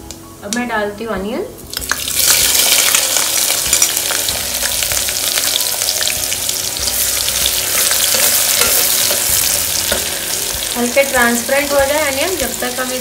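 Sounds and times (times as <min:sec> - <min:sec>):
onion sizzling in hot oil: 0:01.6 - 0:13.0.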